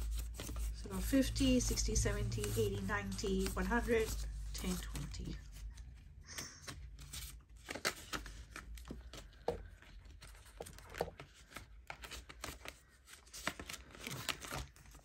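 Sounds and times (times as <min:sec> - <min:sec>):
banknotes rustling and crinkling: 0:00.0 - 0:15.0.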